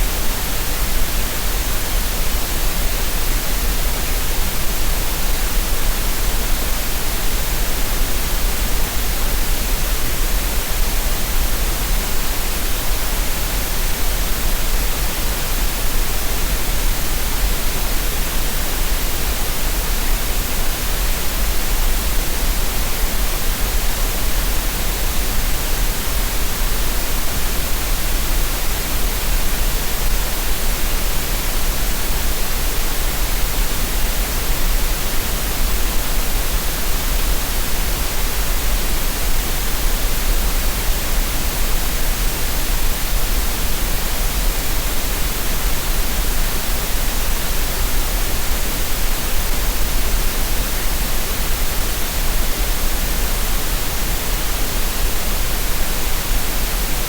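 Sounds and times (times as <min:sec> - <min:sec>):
steady synthetic noise hiss: 0:00.0 - 0:57.0.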